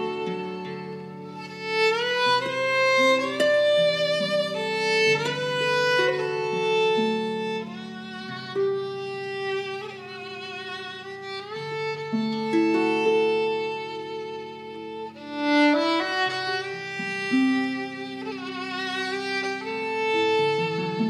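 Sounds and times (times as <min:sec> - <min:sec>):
harp playing slow melody: 0:00.0 - 0:21.0.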